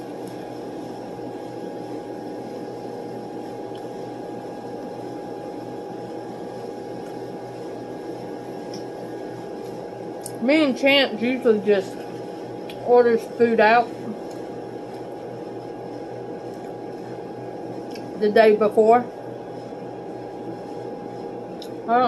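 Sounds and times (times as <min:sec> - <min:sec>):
room machinery hum and hiss: 0:00.0 - 0:22.0.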